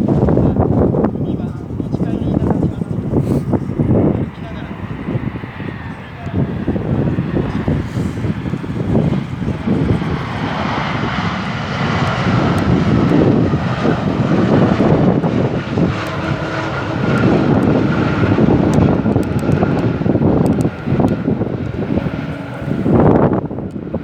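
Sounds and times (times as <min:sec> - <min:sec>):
jet engines running: 0:00.0 - 0:24.0
wind buffeting microphone: 0:00.0 - 0:24.0.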